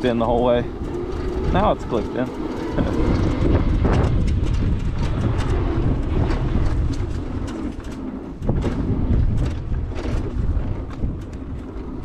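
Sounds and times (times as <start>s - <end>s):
tyres and chassis rumbling: 0.0s - 12.0s.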